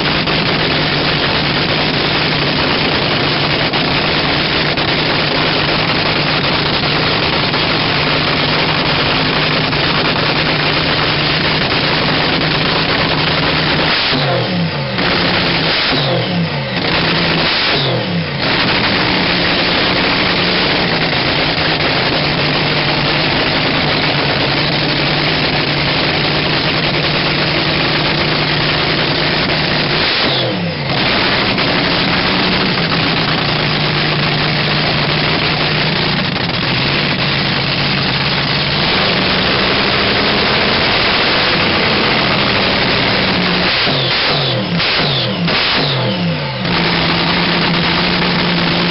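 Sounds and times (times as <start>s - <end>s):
dragster engine idling loud: 0.0s - 48.9s
engine throttle blips: 0.0s - 48.9s.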